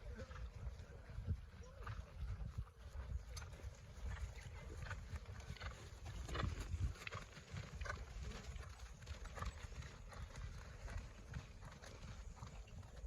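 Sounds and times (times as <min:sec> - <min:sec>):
pony hoofbeats: 0:02.1 - 0:13.0.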